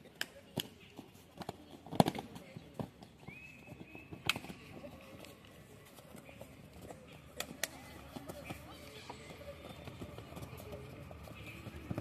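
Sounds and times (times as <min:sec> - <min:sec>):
faint sports match background: 0:00.0 - 0:12.0.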